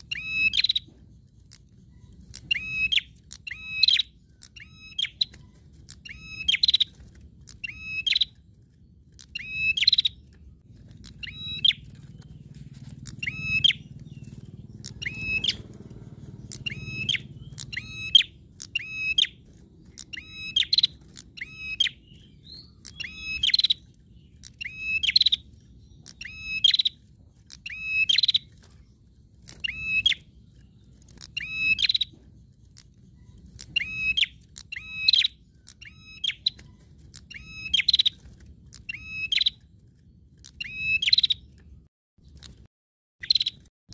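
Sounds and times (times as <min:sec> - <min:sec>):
songbird chirping: 0:00.0 - 0:43.7.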